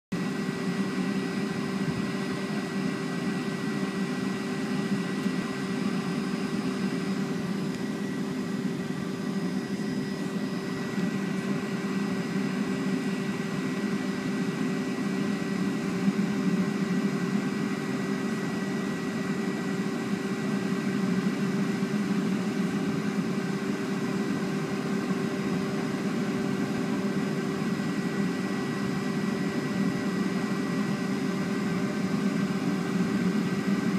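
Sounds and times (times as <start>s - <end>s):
jet engines humming and whining: 0.1s - 33.9s.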